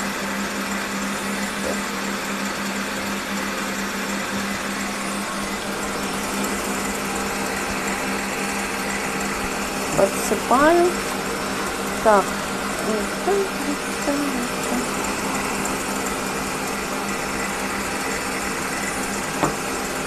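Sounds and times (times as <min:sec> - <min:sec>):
electric mixer motor humming: 0:00.0 - 0:20.0.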